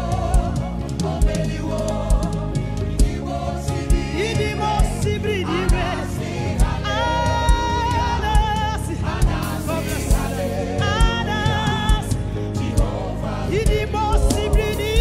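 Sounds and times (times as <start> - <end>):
bass: 0.0 - 15.0
choir singing held notes: 0.0 - 15.0
drum kit beat: 0.0 - 15.0
keyboard: 0.0 - 15.0.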